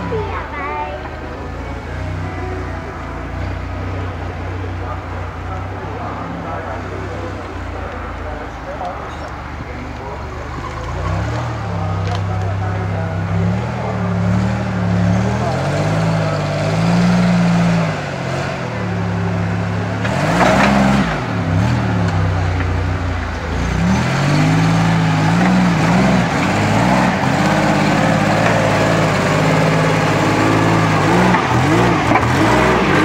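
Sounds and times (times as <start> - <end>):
off-road vehicle engine revving: 0.0 - 33.0.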